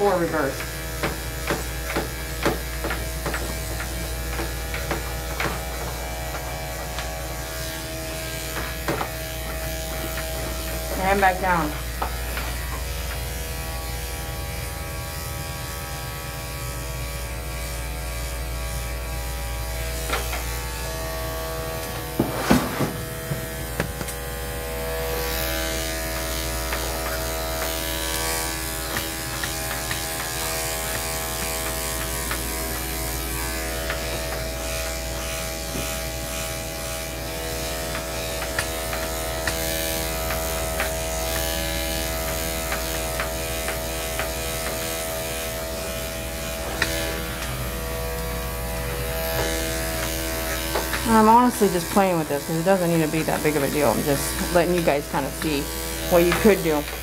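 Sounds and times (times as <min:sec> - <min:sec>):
electric clippers buzzing: 0:00.0 - 0:57.0.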